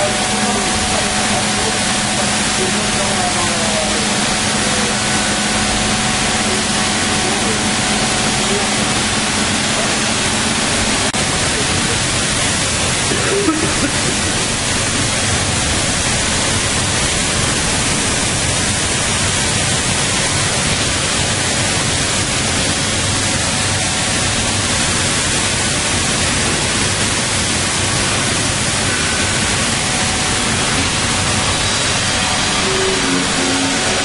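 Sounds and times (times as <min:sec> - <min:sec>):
industrial machinery rushing noise: 0:00.0 - 0:34.0.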